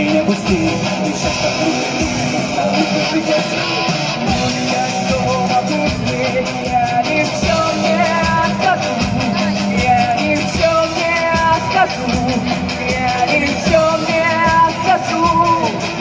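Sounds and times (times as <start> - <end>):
drums: 0.0 - 16.0
electric guitars: 0.0 - 16.0
person singing: 0.0 - 16.0.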